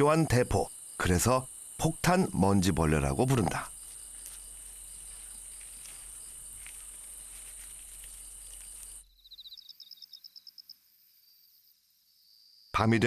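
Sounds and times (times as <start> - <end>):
insect trilling: 0.0 - 13.0
rapid pulsed insect chirping: 0.0 - 13.0.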